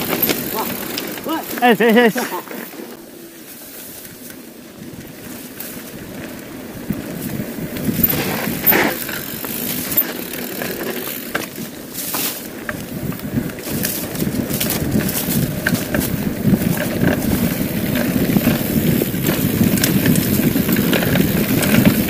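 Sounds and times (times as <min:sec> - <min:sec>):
bike rattling over bumps: 0:00.0 - 0:22.0
bike tyres rumbling on dirt: 0:00.0 - 0:22.0.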